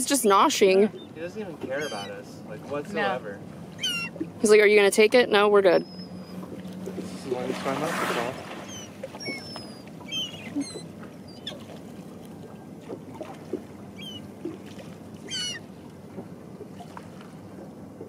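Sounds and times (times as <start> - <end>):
gulls calling: 0.0 - 16.6
boat engine idling: 0.0 - 18.0.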